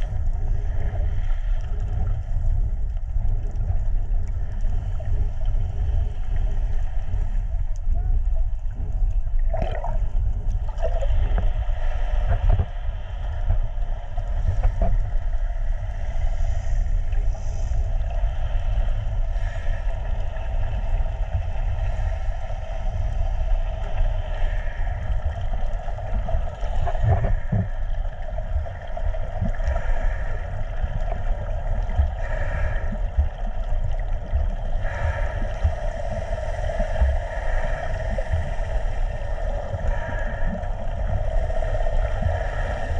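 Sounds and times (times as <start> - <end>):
underwater boat engine drone: 0.0 - 42.9.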